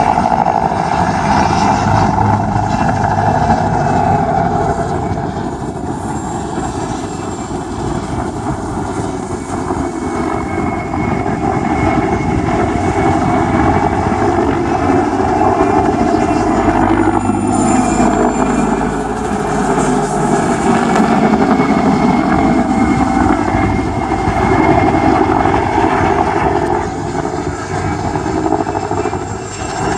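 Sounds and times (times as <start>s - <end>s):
helicopter rotor chopping: 0.0s - 29.9s.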